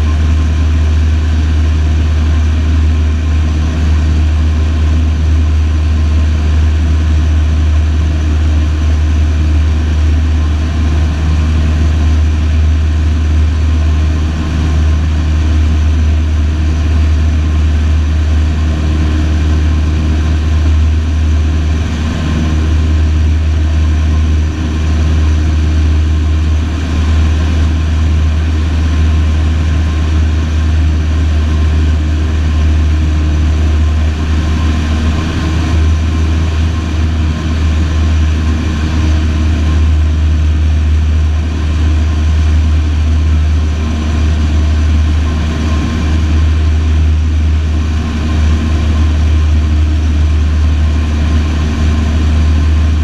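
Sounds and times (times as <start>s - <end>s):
light aeroplane engine droning: 0.0s - 53.0s.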